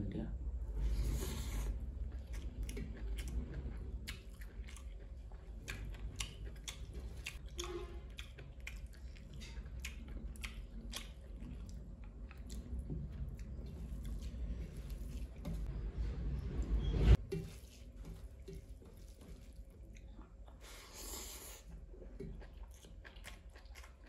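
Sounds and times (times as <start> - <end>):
man chewing food: 0.8 - 15.7, 17.2 - 24.0.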